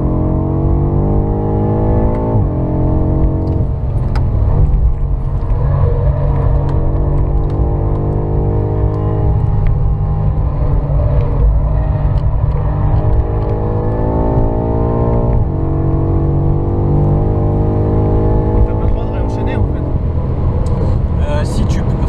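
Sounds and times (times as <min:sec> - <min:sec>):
car engine accelerating: 0:00.0 - 0:22.0
road and tyre rumble: 0:00.0 - 0:22.0.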